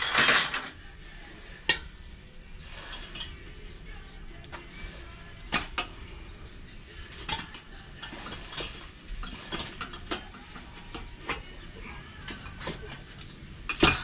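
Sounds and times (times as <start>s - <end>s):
tire irons scraping wheel rim: 2.5s - 14.0s.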